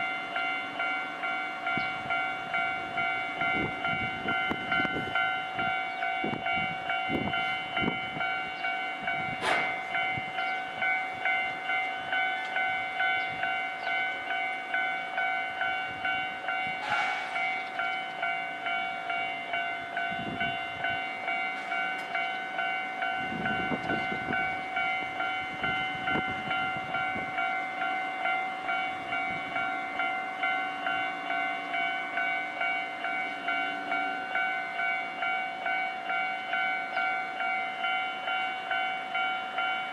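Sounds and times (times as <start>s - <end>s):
level crossing warning bell: 0.0s - 39.9s
low rumble of train movement: 0.0s - 39.9s.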